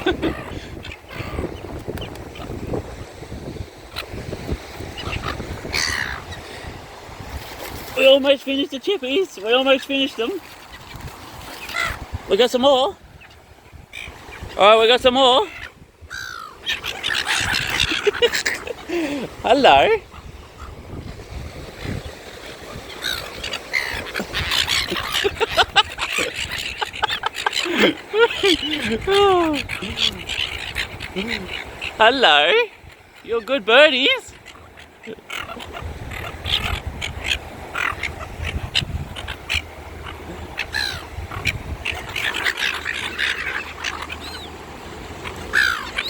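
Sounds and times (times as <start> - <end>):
seagulls squawking: 0.0 - 6.8, 9.2 - 46.0.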